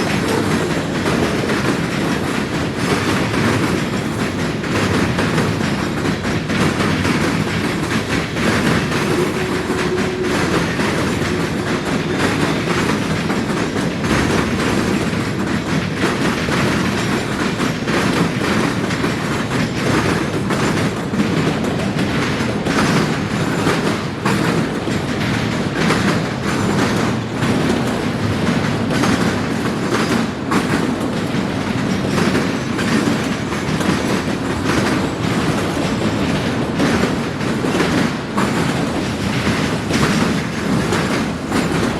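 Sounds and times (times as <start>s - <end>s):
train rumble: 0.0s - 41.9s
train wheels clattering over crossing: 0.0s - 41.9s.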